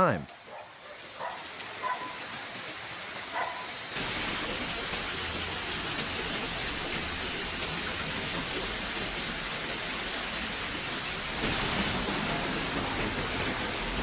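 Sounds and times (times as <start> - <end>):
running floodwater: 0.0 - 14.0
torrential rain: 0.0 - 14.0.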